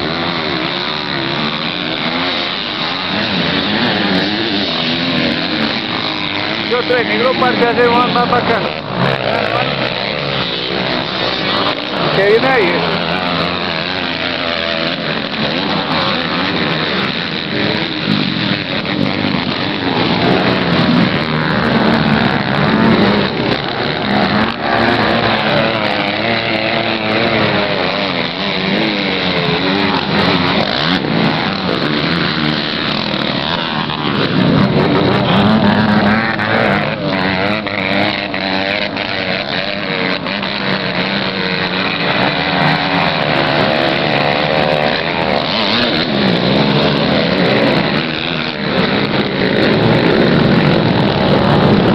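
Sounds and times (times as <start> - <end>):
motocross bikes revving: 0.0 - 51.9.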